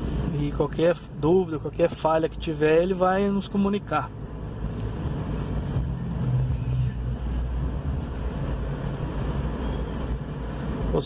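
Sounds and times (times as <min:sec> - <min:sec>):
car engine running at low revs: 0:00.0 - 0:11.0
road rumble: 0:00.0 - 0:11.0.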